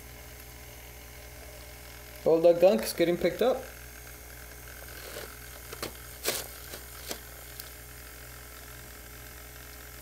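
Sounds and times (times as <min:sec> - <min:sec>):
small motor humming underwater: 0:00.0 - 0:10.0.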